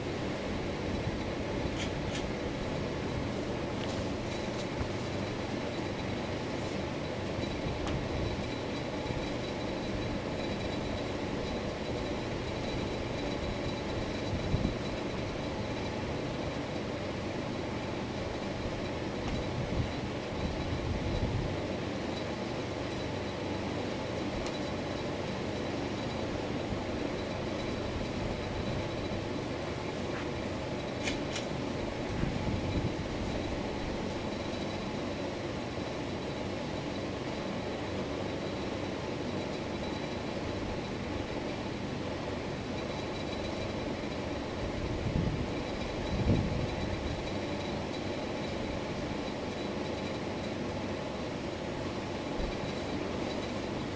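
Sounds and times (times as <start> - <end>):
ceiling fan running: 0.0 - 53.9.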